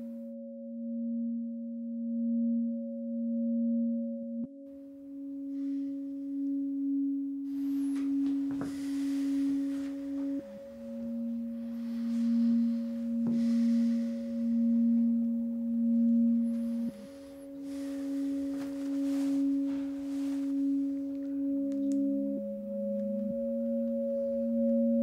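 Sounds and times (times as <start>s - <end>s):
high held tone: 0.0s - 25.0s
lower held tone: 0.0s - 25.0s.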